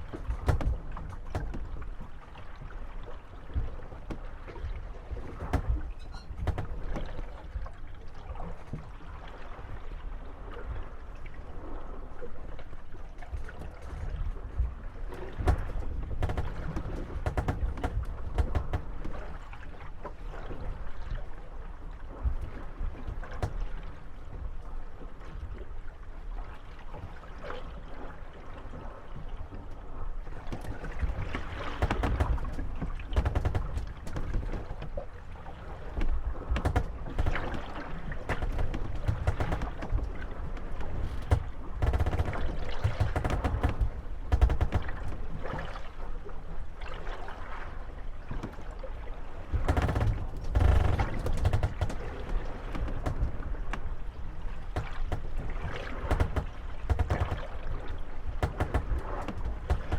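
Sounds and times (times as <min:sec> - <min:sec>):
boats creaking and knocking: 0:00.0 - 0:09.7, 0:13.1 - 0:25.6, 0:29.5 - 0:46.7, 0:48.2 - 0:59.9
water lapping at hulls: 0:00.0 - 0:59.9.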